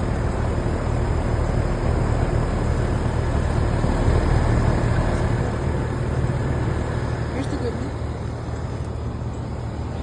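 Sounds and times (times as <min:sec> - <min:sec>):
condenser fans rushing: 0:00.0 - 0:10.0.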